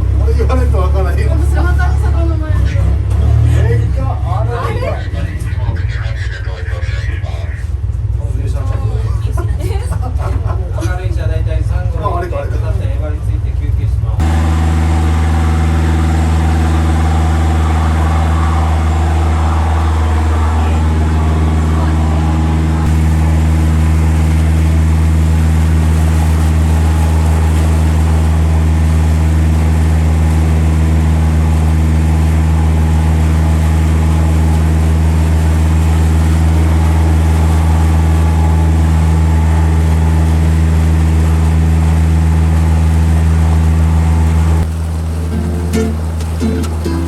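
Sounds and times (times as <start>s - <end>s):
boat engine droning: 0.0s - 13.0s, 13.9s - 47.0s.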